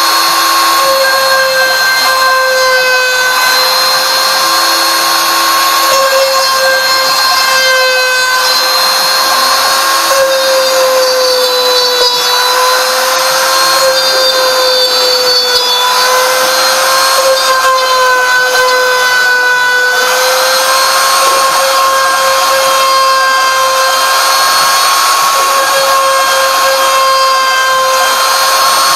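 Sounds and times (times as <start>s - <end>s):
router spindle whine: 0.0s - 28.9s.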